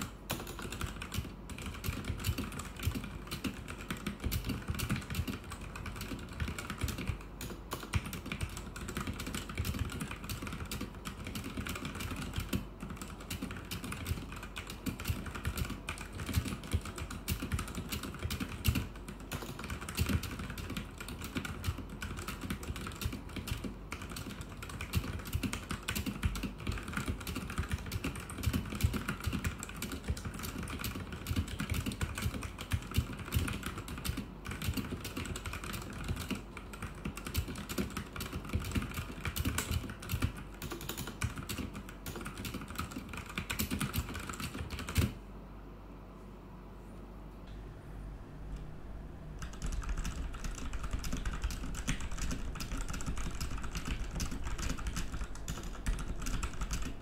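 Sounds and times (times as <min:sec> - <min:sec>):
fast typing on mechanical keyboard: 0:00.0 - 0:45.2, 0:49.3 - 0:57.0.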